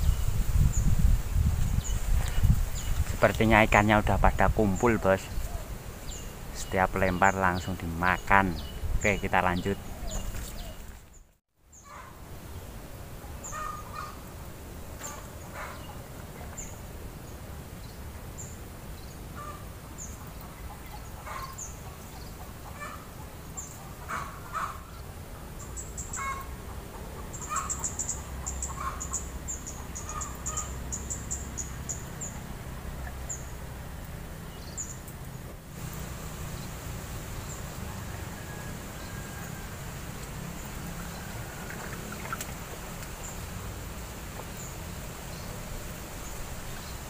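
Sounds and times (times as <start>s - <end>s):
lower bird calls: 0.0s - 12.1s, 13.4s - 14.3s, 14.9s - 33.6s, 35.9s - 43.7s.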